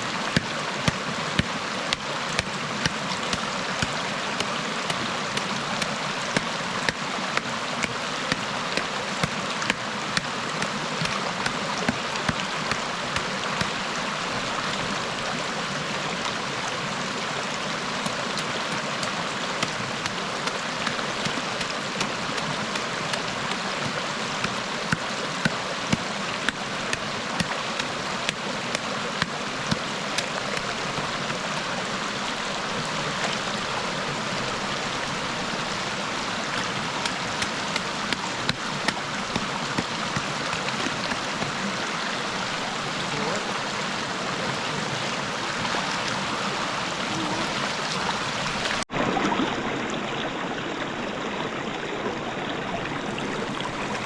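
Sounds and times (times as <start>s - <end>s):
flowing river water: 0.0s - 54.0s.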